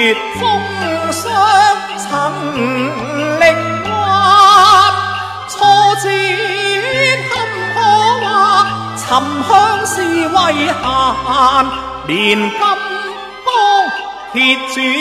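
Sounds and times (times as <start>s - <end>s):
instrumental accompaniment: 0.0s - 15.0s
man singing opera with vibrato: 0.0s - 15.0s.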